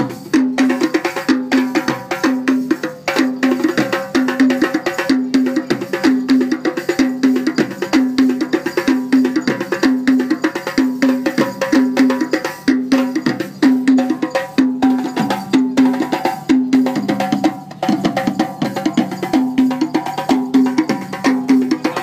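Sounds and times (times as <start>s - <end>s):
hand drumming: 0.0s - 22.0s.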